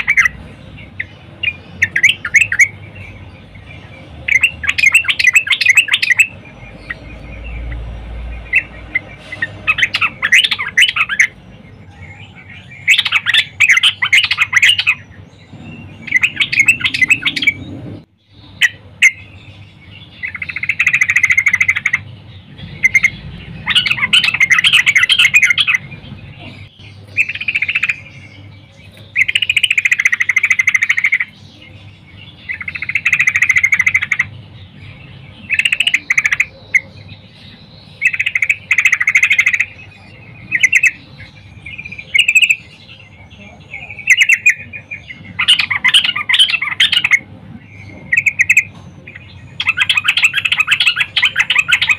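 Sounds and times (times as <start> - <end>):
bird singing bubbly chirps: 0.0 - 51.9.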